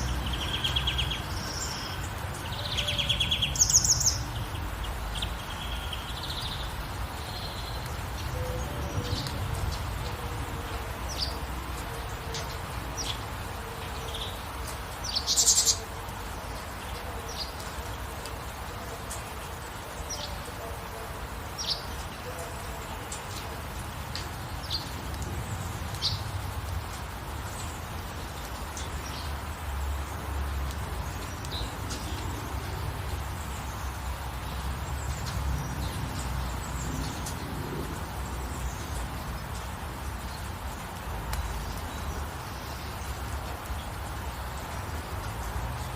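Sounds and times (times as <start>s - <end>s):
small birds chirping: 0.0s - 20.6s, 22.8s - 45.9s
gentle rain hiss: 0.0s - 45.9s.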